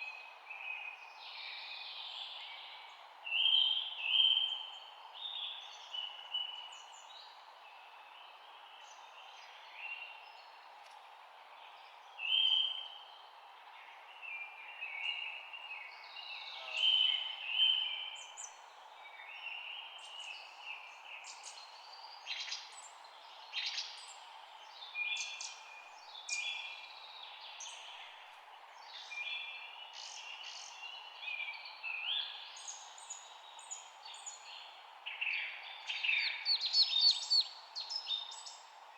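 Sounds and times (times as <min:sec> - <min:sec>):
songbirds chirping and trilling: 0:00.2 - 0:38.9.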